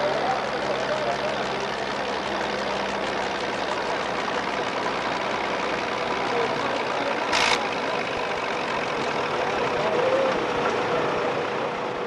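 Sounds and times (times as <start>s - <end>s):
tractor engine under full load: 0.0s - 12.0s.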